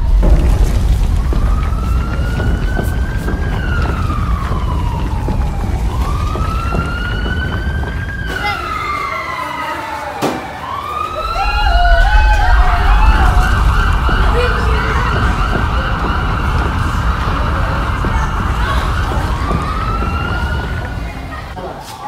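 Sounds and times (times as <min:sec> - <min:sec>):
steady low rumble: 0:00.0 - 0:08.3, 0:11.1 - 0:21.6
fast-wavering siren tone: 0:00.0 - 0:21.5
siren wailing: 0:00.0 - 0:21.6.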